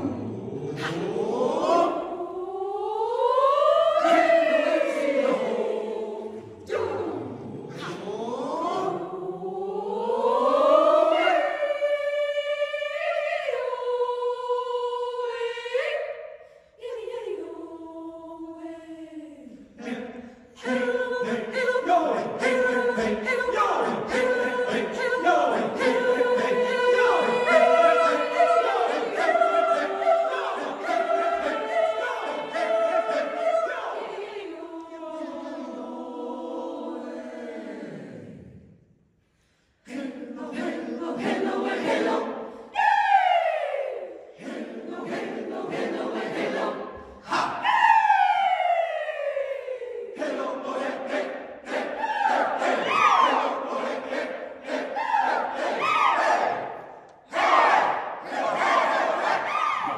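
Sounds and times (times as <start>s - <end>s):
choir singing chords: 0.0s - 59.9s.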